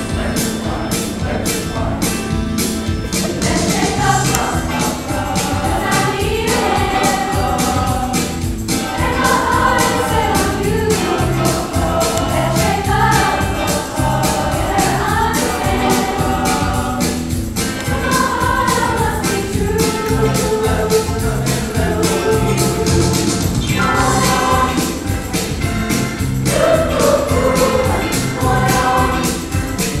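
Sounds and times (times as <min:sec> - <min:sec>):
choir singing: 0:00.0 - 0:30.0
instrumental accompaniment: 0:00.0 - 0:30.0.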